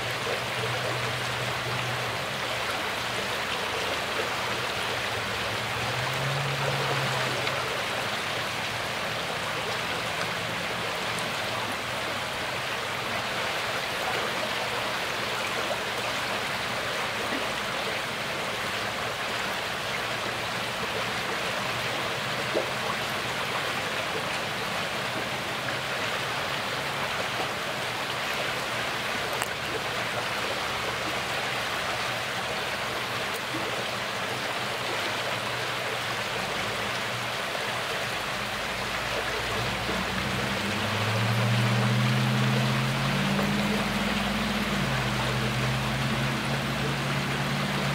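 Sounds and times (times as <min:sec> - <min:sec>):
water lapping over pebbles: 0:00.0 - 0:47.9.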